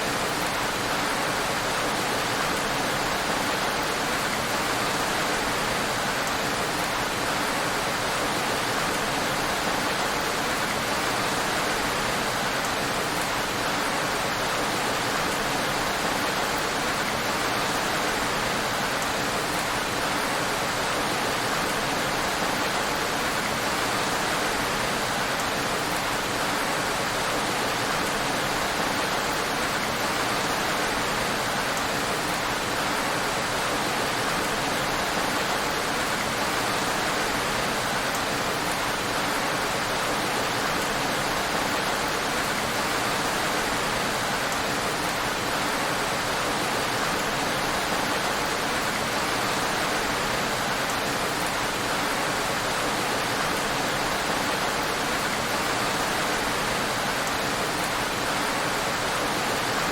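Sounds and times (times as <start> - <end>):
heavy rain on road: 0.0 - 59.9.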